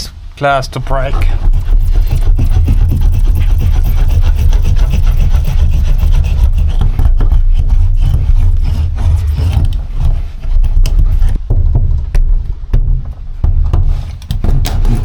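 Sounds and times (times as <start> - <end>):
insulation rubbing on sheet metal: 0.0 - 15.0
steady low rumble: 0.0 - 15.0.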